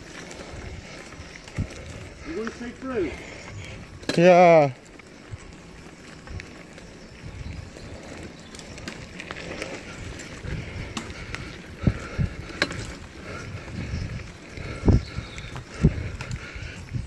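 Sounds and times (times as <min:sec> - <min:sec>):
bicycle frame rattling: 0:00.0 - 0:17.0
bicycle rolling on dirt trail: 0:00.0 - 0:17.0.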